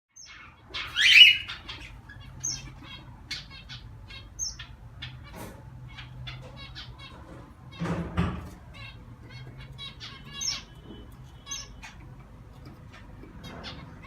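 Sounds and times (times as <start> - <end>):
birds chirping and tweeting: 0.1 - 14.0
bird squawk: 0.2 - 8.0, 8.6 - 12.3.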